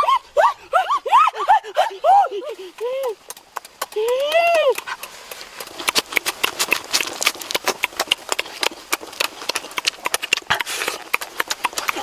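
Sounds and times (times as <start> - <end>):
wet chewing and smacking: 2.4 - 12.0.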